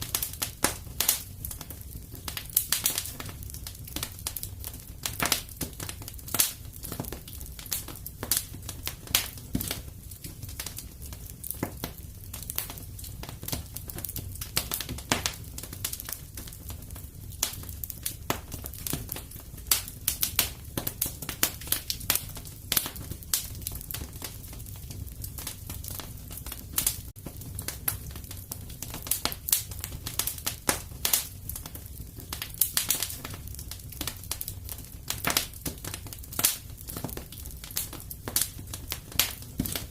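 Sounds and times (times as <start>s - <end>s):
fireplace fire crackling: 0.0s - 39.9s
low rumble of fire: 0.0s - 39.9s.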